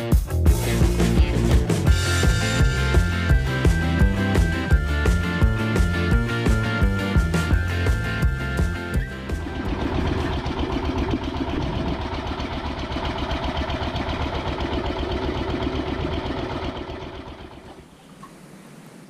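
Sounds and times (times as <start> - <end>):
boat engine rumbling: 0.5 - 18.7.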